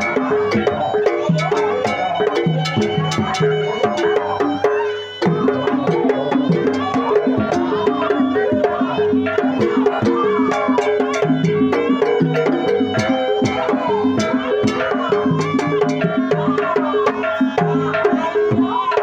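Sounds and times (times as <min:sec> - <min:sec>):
gamelan music: 0:00.0 - 0:19.0.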